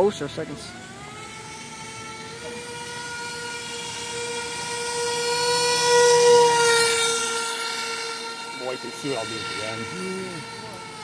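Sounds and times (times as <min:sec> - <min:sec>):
rc airboat motor whining: 0:00.0 - 0:11.0.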